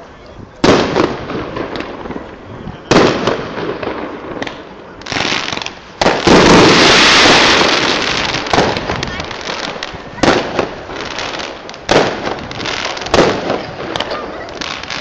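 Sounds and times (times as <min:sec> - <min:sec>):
firework crackle: 0:00.5 - 0:15.0.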